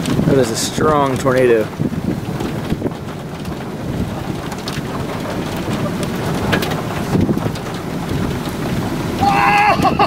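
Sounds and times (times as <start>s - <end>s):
low rumble of wind: 0.0s - 10.0s
rain: 0.0s - 10.0s
raindrops ticking: 0.0s - 10.0s.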